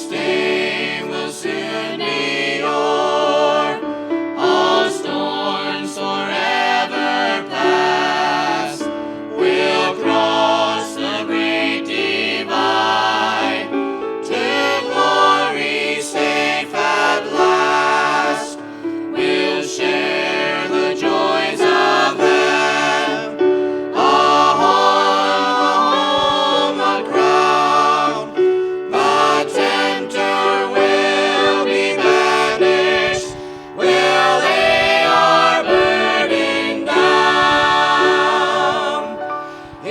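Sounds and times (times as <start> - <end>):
vocal group singing gospel harmony: 0.0 - 39.9.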